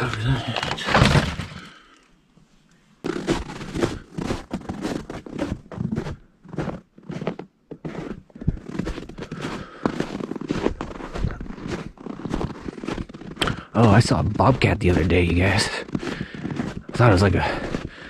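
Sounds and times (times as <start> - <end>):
footsteps crunching on icy snow: 3.0 - 18.0.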